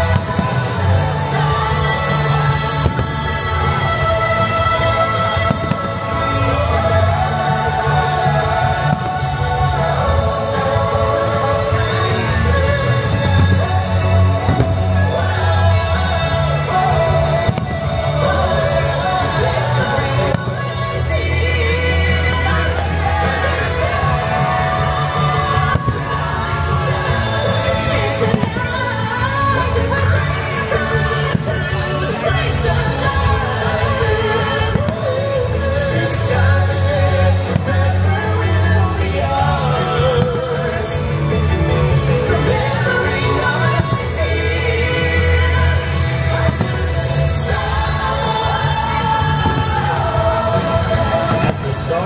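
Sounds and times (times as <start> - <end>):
pop song with singing: 0.0 - 52.0
sustained low bass notes: 0.0 - 52.0.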